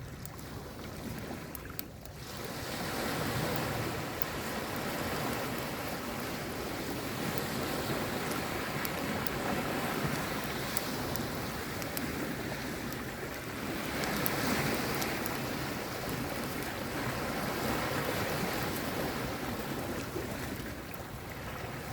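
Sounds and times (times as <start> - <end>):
faint scattered crackles: 0.0 - 21.9
sea waves washing: 0.0 - 21.9.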